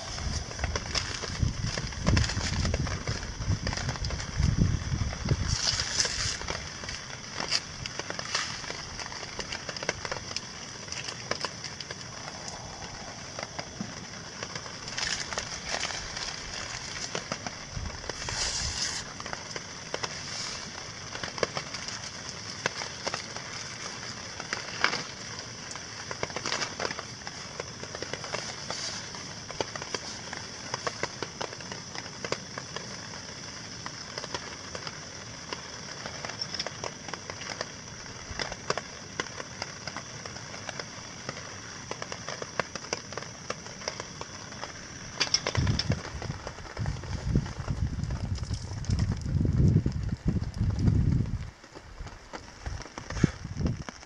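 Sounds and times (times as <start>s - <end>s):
raindrops ticking on surfaces: 0.0s - 54.0s
steady rain hiss: 0.0s - 54.0s.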